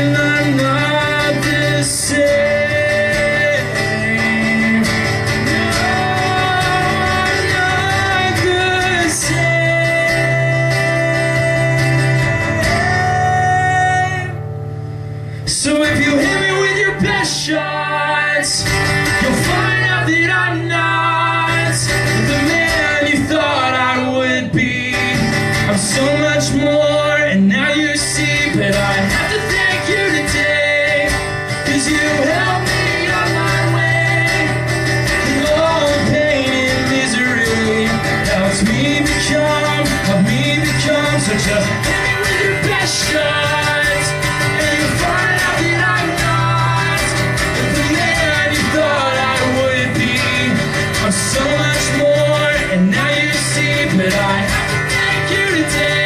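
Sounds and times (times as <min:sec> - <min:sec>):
person singing: 0:00.0 - 0:14.5, 0:15.5 - 0:56.0
acoustic guitar playing: 0:00.0 - 0:56.0.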